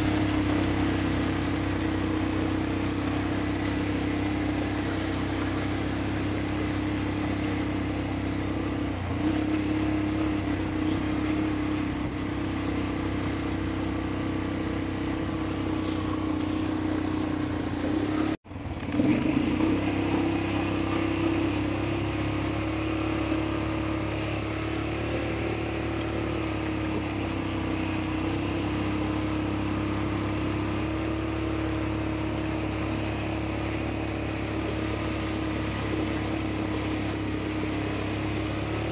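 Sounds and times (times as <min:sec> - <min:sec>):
quad bike engines droning: 0:00.0 - 0:38.9.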